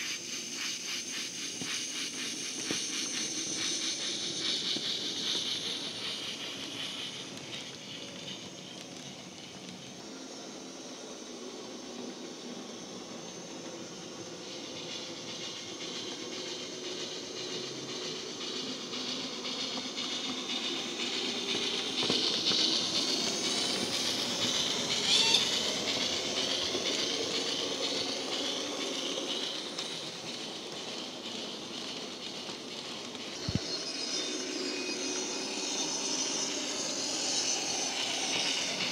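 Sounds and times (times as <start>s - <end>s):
steam chuffing and hiss from speaker: 0.0s - 38.9s
wheels running on rails: 0.0s - 38.9s.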